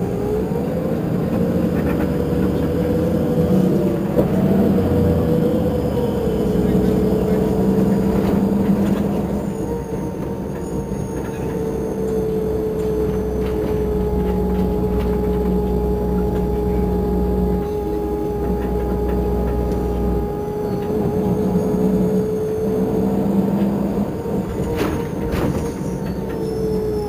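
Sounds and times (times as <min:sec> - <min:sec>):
bus engine idling: 0:00.0 - 0:27.0
steady engine whine: 0:00.0 - 0:27.0.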